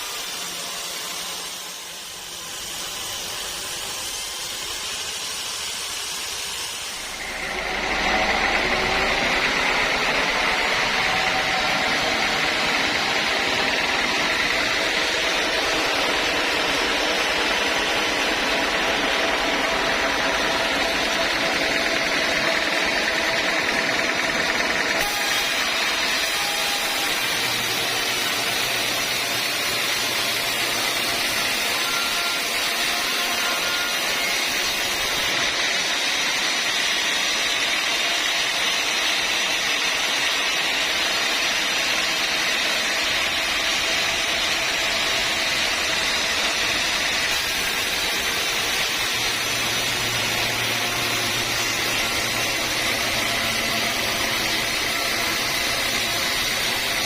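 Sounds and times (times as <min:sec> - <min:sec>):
sawmill saw running: 0:00.0 - 0:57.0.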